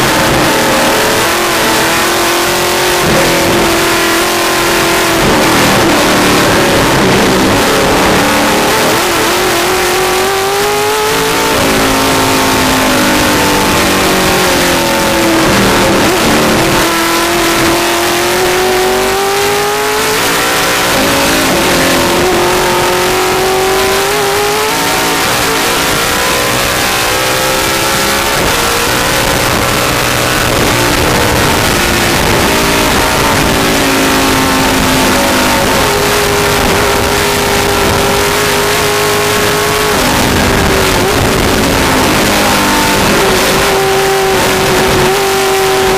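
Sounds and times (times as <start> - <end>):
race car engine revving: 0.0 - 45.9
wind and road noise: 0.0 - 45.9.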